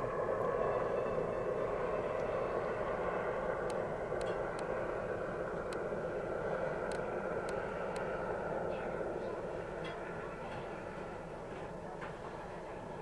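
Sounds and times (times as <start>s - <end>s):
distant helicopter drone: 0.0s - 13.0s.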